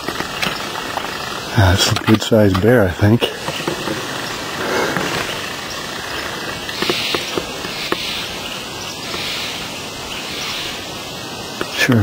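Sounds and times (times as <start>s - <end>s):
woodland background hiss: 0.0s - 12.0s.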